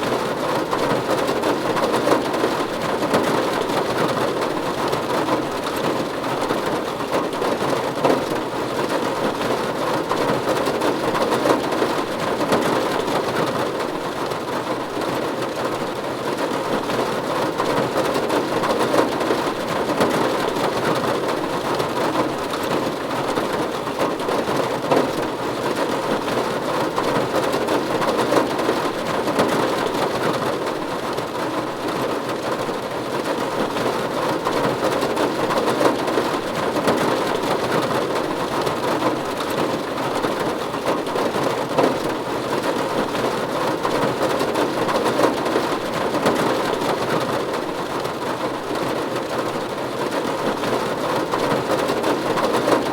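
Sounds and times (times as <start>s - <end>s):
rain on a roof: 0.0s - 52.9s.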